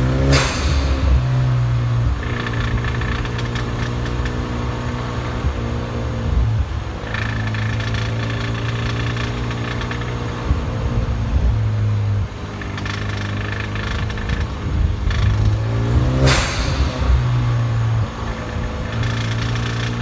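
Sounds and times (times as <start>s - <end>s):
turbo hiss: 0.0s - 5.7s, 7.0s - 10.6s, 12.5s - 20.0s
car engine revving: 0.0s - 20.0s.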